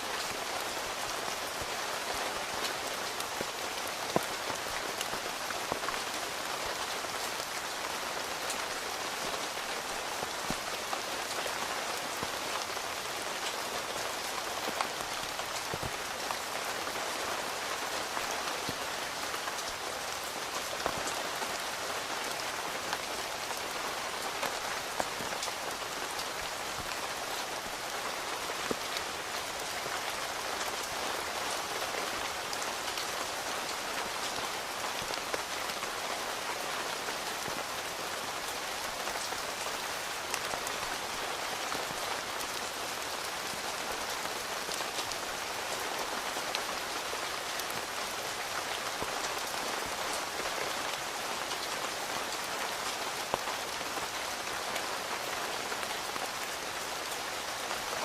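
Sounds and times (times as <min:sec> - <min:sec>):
rain on a tent: 0:00.0 - 0:58.0.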